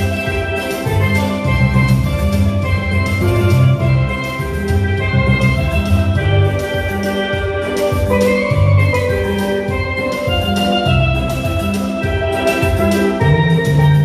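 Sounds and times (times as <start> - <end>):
deep bass line: 0.0 - 14.0
drum kit with cymbals: 0.0 - 14.0
steelpan melody: 0.0 - 14.0.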